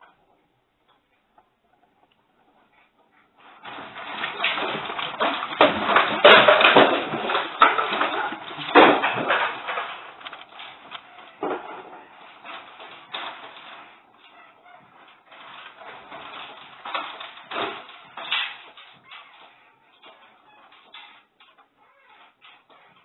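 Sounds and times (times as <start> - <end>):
objects rattling and clattering: 3.4 - 23.0.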